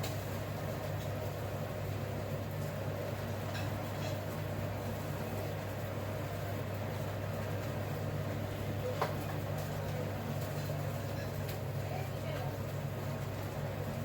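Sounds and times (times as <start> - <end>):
appliance humming: 0.0 - 14.0.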